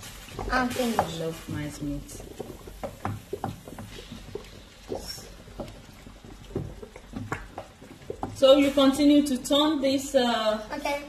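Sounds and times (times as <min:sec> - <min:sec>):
meat frying: 0:00.0 - 0:10.6.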